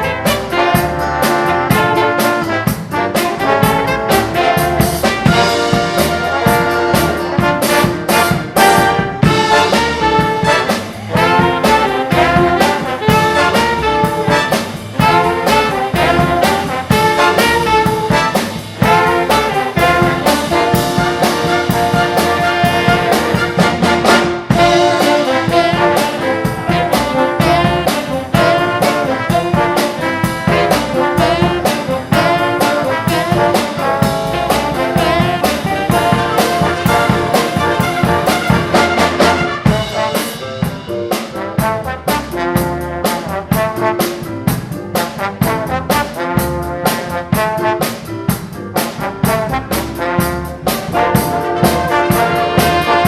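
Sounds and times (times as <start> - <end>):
big band dance music: 0.0 - 53.0
steady drum beat: 0.0 - 53.0
trumpets and trombones: 0.0 - 53.0.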